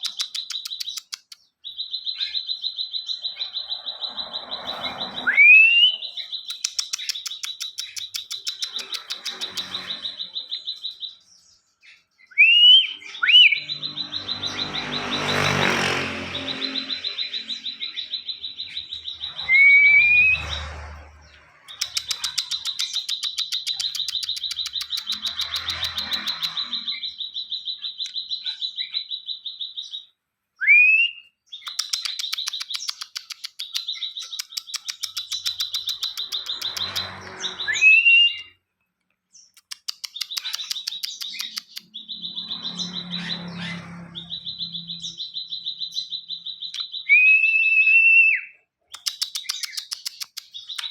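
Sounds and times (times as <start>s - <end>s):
songbird trilling and whistling: 0.0s - 15.6s, 16.3s - 38.6s, 39.4s - 50.9s.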